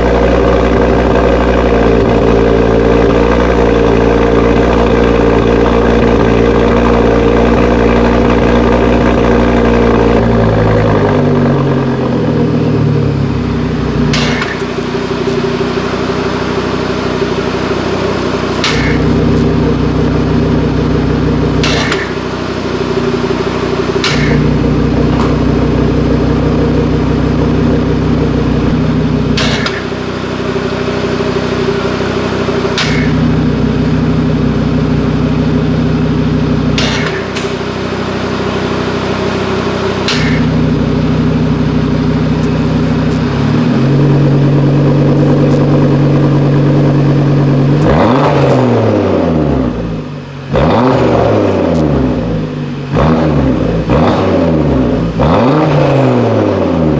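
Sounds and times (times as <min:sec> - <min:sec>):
car engine idling: 0:00.0 - 0:55.7
car engine revving: 0:00.0 - 0:56.9.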